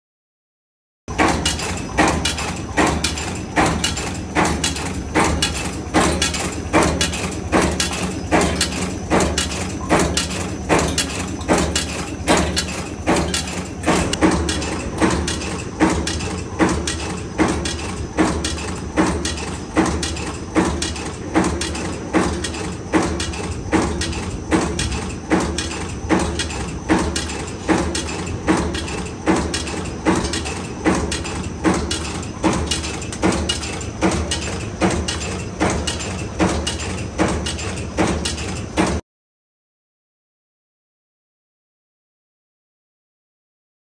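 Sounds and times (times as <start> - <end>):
machine hum: 1.1 - 38.9
heavy forging clank: 1.1 - 39.0.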